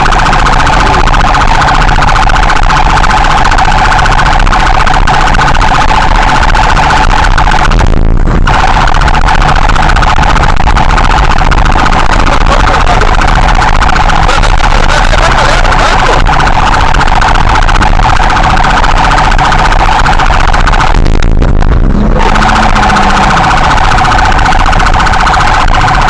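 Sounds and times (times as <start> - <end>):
two-tone police siren: 0.0 - 26.0
vehicle engine and road rumble: 0.0 - 26.0.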